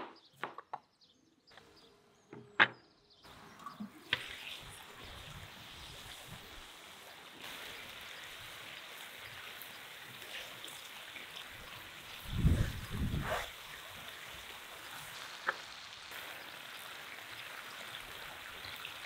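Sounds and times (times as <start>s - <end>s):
meat sizzling in hot fat: 3.3s - 19.0s.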